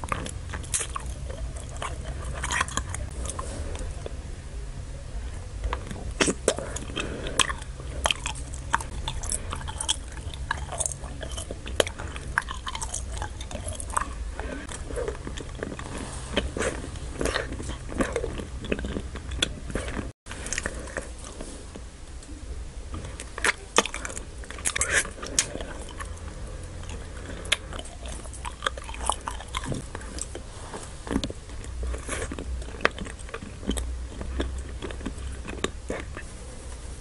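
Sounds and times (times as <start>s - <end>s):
chewing wax candy: 0.0s - 36.8s.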